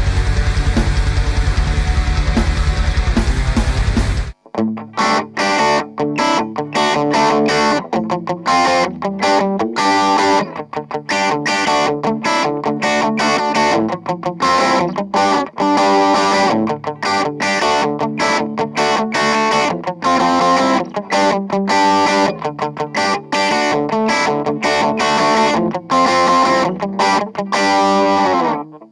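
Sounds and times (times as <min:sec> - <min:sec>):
overdriven electric guitar riff: 0:00.0 - 0:28.9.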